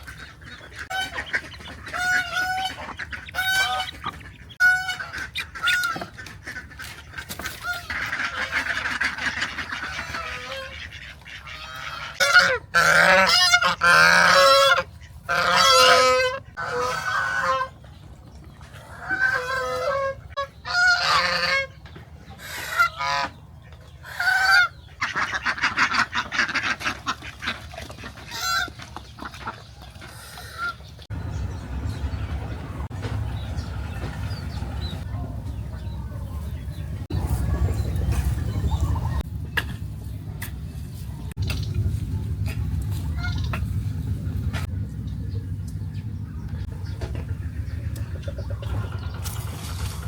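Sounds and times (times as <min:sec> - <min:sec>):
geese honking: 0:00.0 - 0:17.9, 0:18.8 - 0:39.7, 0:42.4 - 0:44.7.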